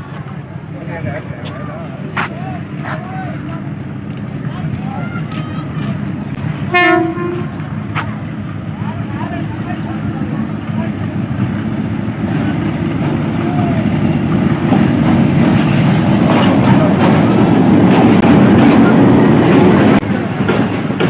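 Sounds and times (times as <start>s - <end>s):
locomotive low rumble: 0.0s - 21.0s.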